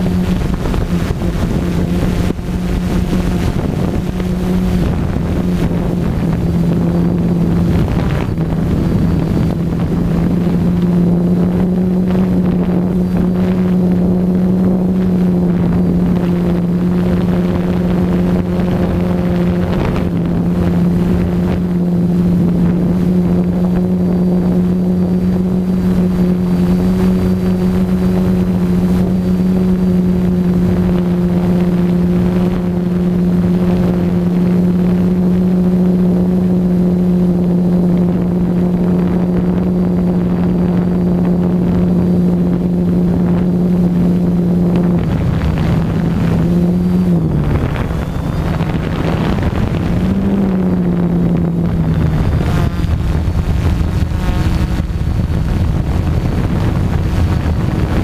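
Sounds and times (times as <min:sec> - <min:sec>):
drone motors and propellers: 0:00.0 - 0:58.0
wind buffeting microphone: 0:00.0 - 0:58.0.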